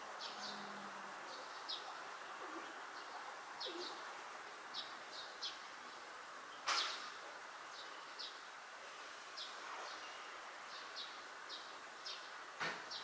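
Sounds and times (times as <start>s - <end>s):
outdoor hiss: 0.0s - 13.0s
small birds chirping: 0.1s - 13.0s.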